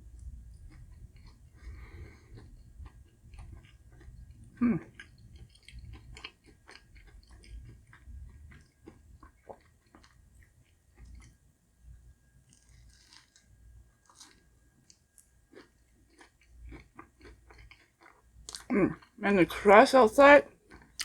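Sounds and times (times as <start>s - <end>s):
chewing crunchy bun: 0.0s - 19.2s, 20.5s - 21.0s.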